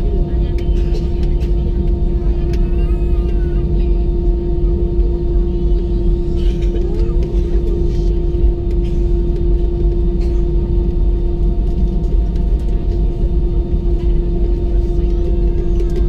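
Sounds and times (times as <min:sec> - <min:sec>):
jet engines idling in cabin: 0:00.0 - 0:16.0.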